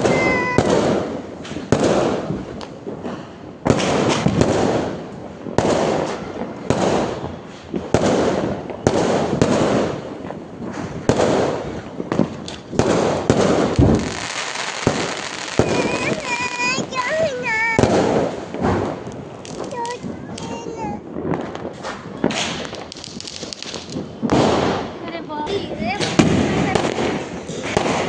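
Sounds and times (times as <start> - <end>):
firecracker crackling: 0.0 - 28.0
firecrackers bursting: 0.0 - 28.0.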